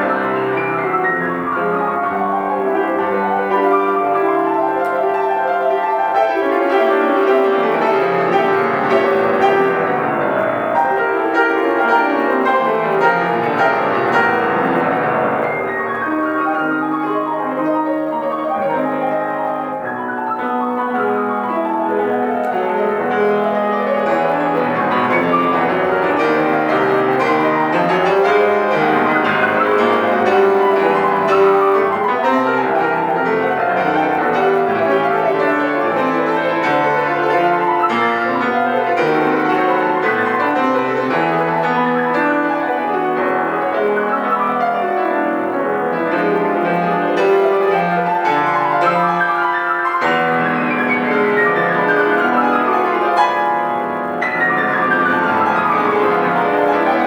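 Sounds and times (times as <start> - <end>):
solo classical piano: 0.0 - 57.0.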